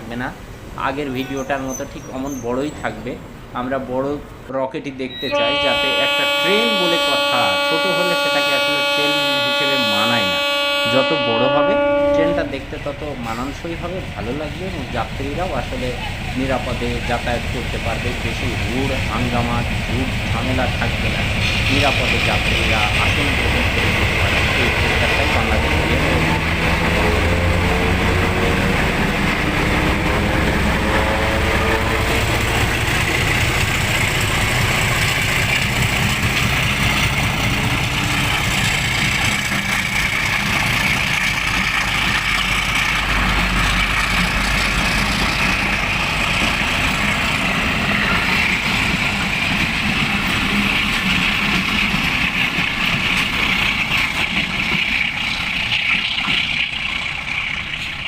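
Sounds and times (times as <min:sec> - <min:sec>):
diesel locomotive engine: 0:00.0 - 0:58.0
train rolling on rails: 0:00.0 - 0:58.0.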